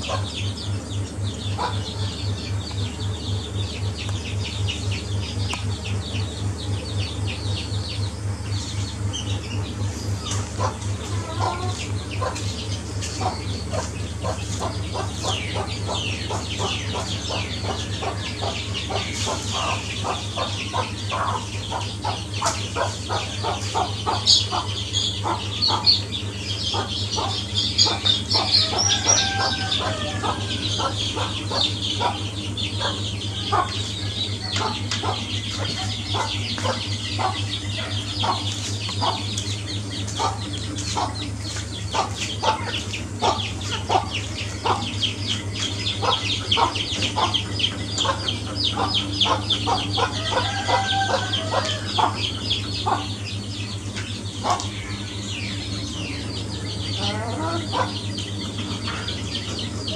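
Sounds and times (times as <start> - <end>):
hen clucking: 0.0 - 59.9
steady low hum: 0.0 - 59.9.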